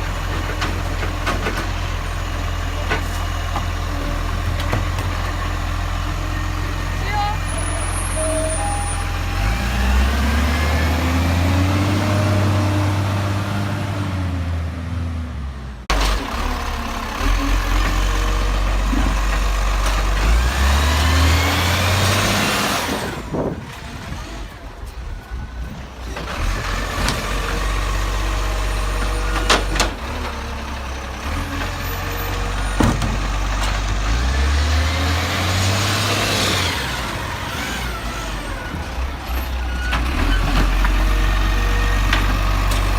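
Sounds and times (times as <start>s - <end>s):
garbage truck engine revving: 0.0s - 25.0s, 25.6s - 42.9s.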